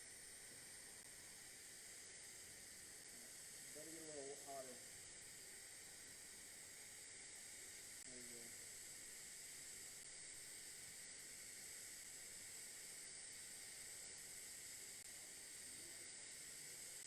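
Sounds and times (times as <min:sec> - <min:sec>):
welding torch hiss: 0:00.0 - 0:17.0.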